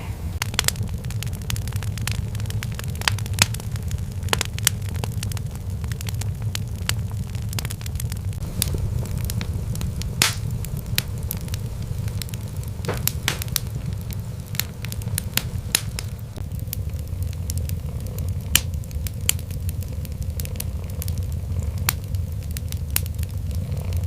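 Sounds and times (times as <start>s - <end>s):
low rumble: 0.0s - 24.0s
wood fire crackling and popping: 0.4s - 24.0s.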